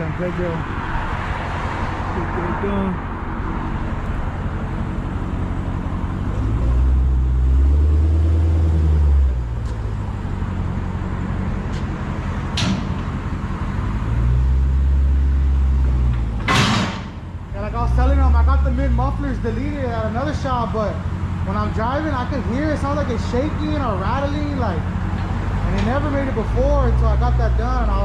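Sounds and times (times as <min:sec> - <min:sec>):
car engine idling: 0:00.0 - 0:07.4, 0:09.2 - 0:28.0.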